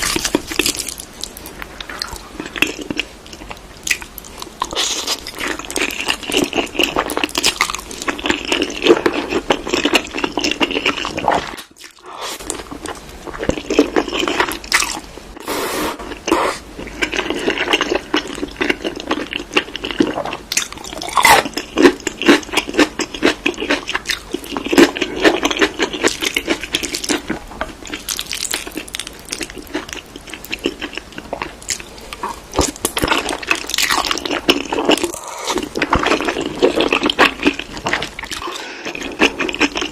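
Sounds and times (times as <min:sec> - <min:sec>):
wet chewing with crunchy bites: 0:00.0 - 0:15.1, 0:16.1 - 0:39.9.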